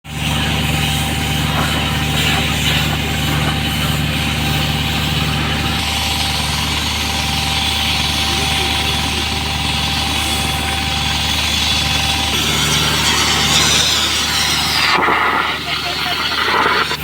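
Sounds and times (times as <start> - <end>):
engine idling hum: 0.0 - 17.0
constant rushing hiss: 0.2 - 17.0.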